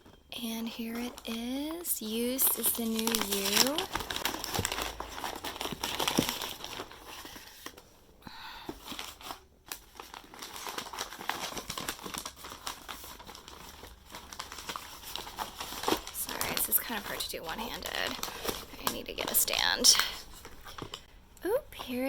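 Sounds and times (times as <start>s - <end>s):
packing material crinkling: 0.0s - 8.0s, 8.8s - 21.1s.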